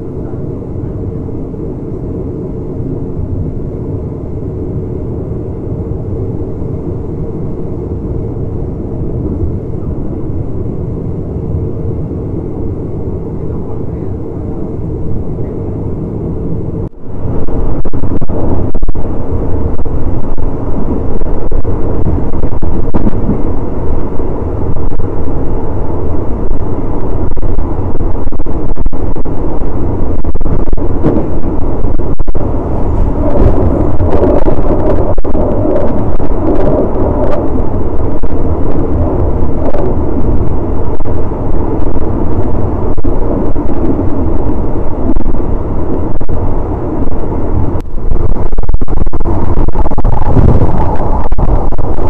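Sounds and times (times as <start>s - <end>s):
rushing air: 0.0s - 52.0s
train wheels on rails: 0.0s - 52.0s.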